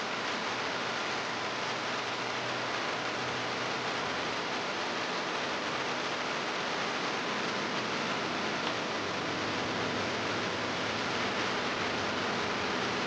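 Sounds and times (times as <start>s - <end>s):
steady rainfall hiss: 0.0s - 13.0s.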